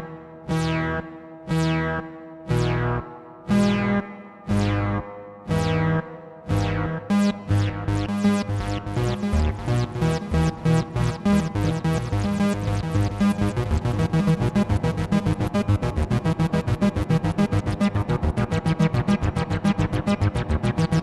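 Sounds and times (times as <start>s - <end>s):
arpeggiated bass synthesizer: 0.0s - 21.0s.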